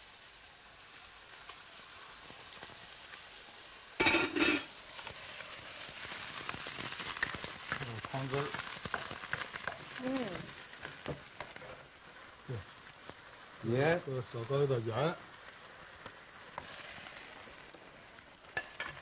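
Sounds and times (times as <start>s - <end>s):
food sizzling in a wok: 0.0s - 19.0s
stock poured into hot wok: 0.0s - 19.0s.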